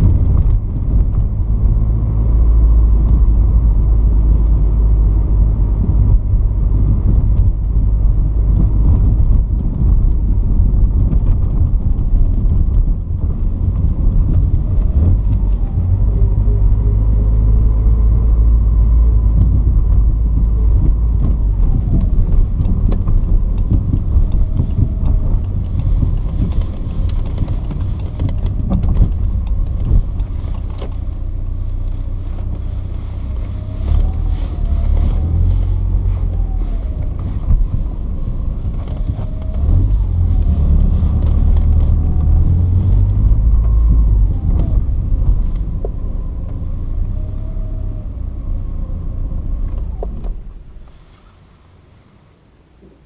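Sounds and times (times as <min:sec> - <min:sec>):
car engine rumble: 0:00.0 - 0:53.0.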